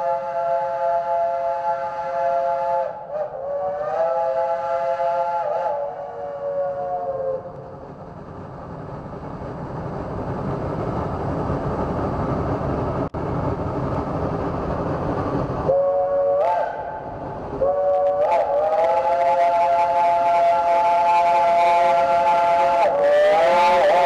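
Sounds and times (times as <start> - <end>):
steam locomotive exhaust: 0.0 - 24.0.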